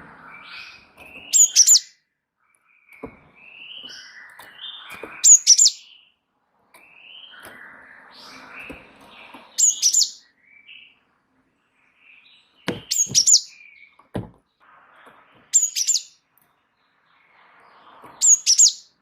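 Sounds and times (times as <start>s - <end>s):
soft bird twittering: 0.0s - 19.0s.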